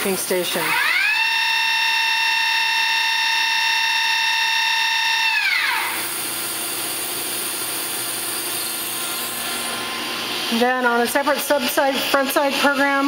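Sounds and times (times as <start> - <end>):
lathe spindles whining: 0.2 - 13.0
machine hum and hiss: 1.6 - 13.0.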